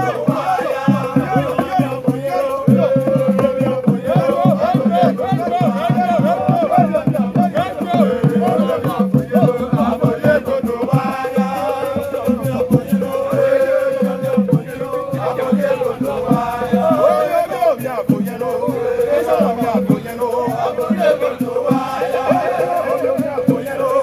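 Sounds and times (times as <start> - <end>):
quick drum beat: 0.0 - 24.0
voices chanting: 0.0 - 24.0.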